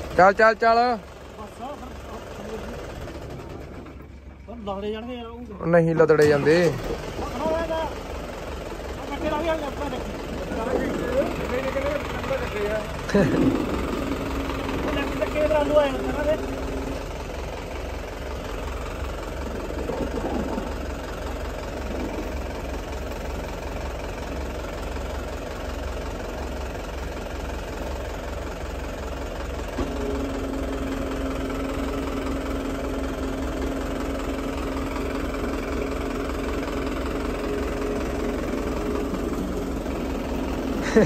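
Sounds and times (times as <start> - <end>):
tractor engine idling: 0.0 - 41.0.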